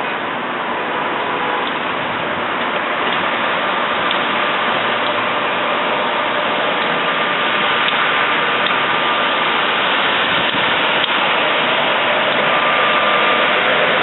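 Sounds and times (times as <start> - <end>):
faint high whine: 0.0 - 14.0
train rushing noise: 0.0 - 14.0.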